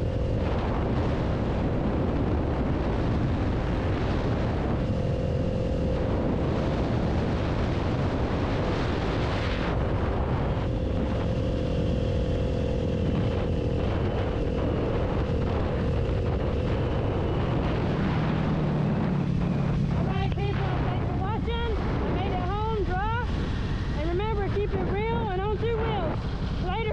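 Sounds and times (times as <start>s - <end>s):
motorcycle engine running: 0.0s - 26.9s
wind rushing over microphone: 0.0s - 26.9s.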